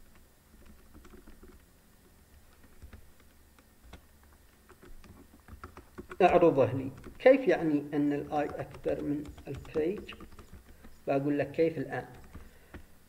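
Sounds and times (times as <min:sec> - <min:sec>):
keyboard typing clicks: 0:00.0 - 0:01.7, 0:02.3 - 0:12.9.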